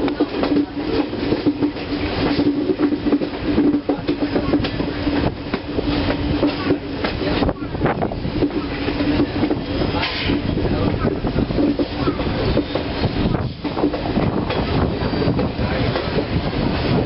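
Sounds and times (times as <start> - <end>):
low train hum: 0.0 - 17.0
train wheels clattering over rail joints: 0.0 - 17.0.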